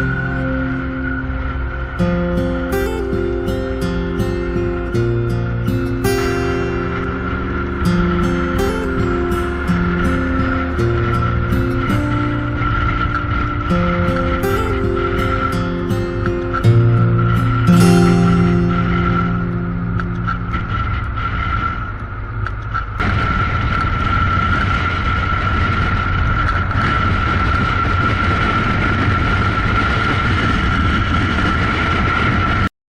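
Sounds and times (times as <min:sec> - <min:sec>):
motorcycle engine: 0:00.0 - 0:32.6
high whine: 0:00.0 - 0:32.7
wind rush: 0:00.0 - 0:32.7.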